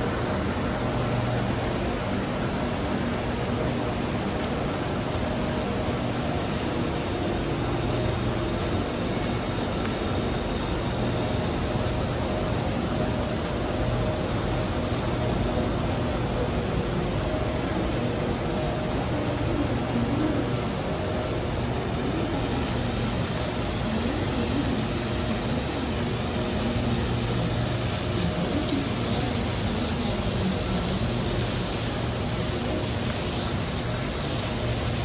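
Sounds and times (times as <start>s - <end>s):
air-conditioning machinery hum: 0.0s - 35.0s.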